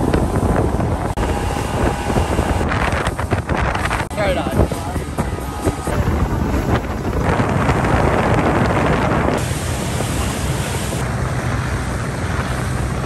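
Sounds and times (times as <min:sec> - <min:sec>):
boat motor humming: 0:00.0 - 0:13.0
water rushing past boat: 0:00.0 - 0:13.0
wind buffeting microphone: 0:00.0 - 0:13.0.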